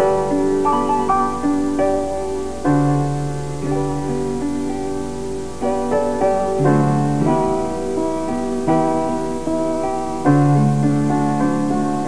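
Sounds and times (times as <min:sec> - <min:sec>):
slow piano-like keyboard chords: 0:00.0 - 0:12.0.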